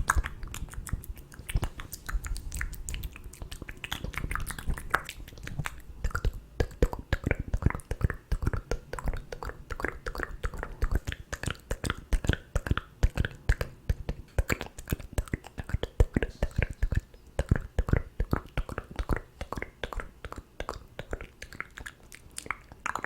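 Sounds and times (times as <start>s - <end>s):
wet mouth clicks and smacks: 0.0s - 23.0s.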